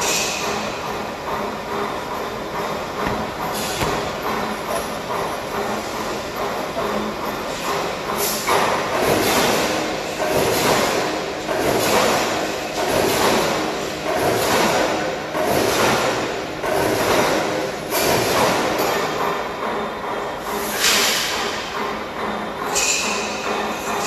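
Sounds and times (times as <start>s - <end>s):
workshop machinery noise: 0.0s - 24.0s.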